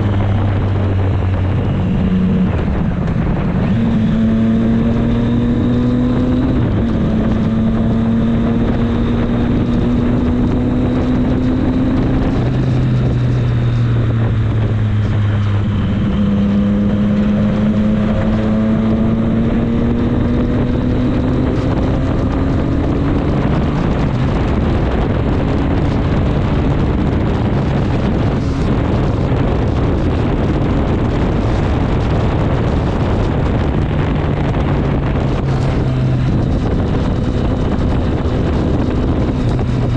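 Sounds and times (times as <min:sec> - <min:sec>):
motorcycle engine under way: 0:00.0 - 0:39.9
wind rush on microphone: 0:00.0 - 0:39.9.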